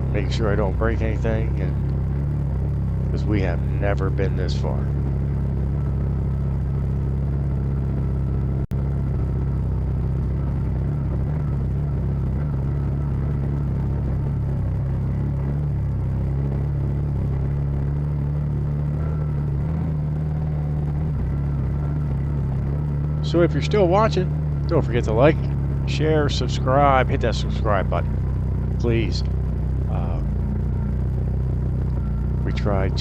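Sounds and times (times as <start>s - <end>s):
vehicle engine droning under load: 0.0s - 33.0s.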